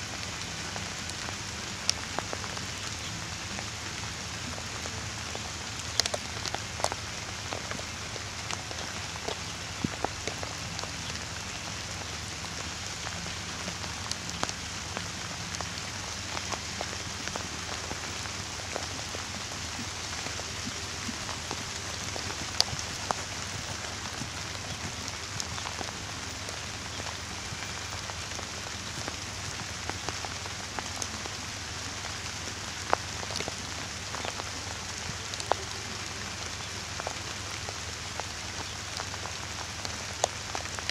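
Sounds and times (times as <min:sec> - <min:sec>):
rain hissing: 0:00.0 - 0:40.9
raindrops ticking close by: 0:00.0 - 0:40.9.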